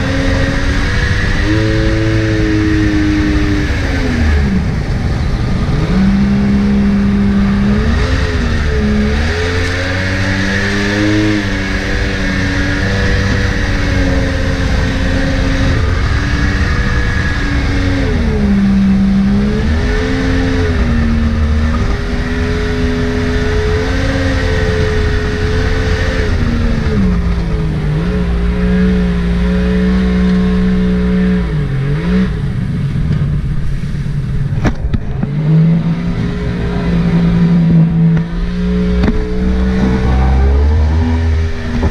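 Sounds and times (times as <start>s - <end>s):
jet boat engine revving: 0.0s - 41.9s.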